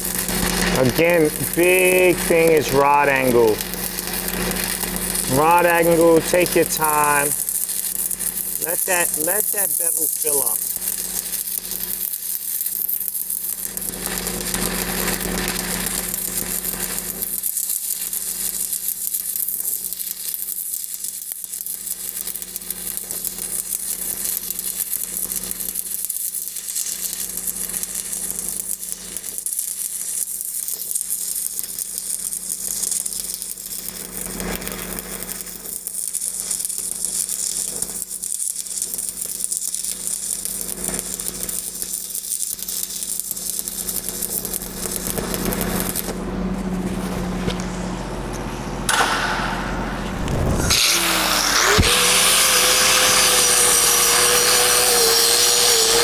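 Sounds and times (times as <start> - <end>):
welding arc crackling: 0.0 - 47.8, 48.9 - 56.0.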